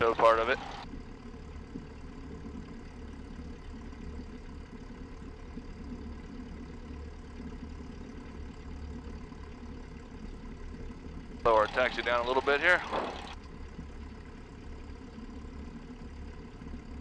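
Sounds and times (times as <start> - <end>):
piston aircraft engine drone: 0.0 - 17.0.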